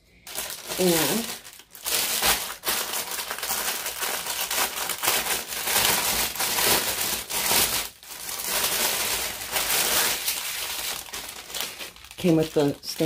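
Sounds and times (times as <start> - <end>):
plastic bag crinkling: 0.3 - 13.0.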